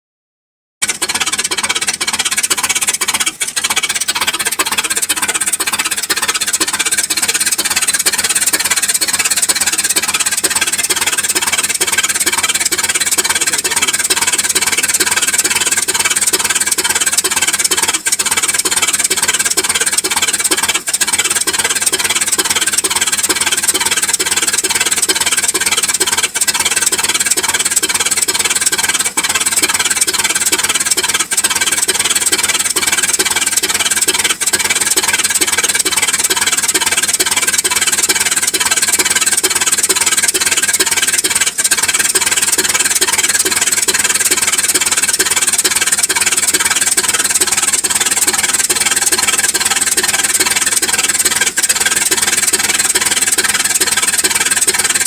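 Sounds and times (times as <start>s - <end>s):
car engine running: 0.8s - 55.0s.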